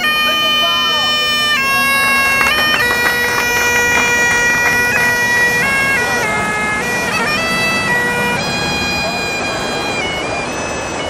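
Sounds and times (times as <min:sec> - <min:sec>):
bagpipes playing: 0:00.0 - 0:11.0.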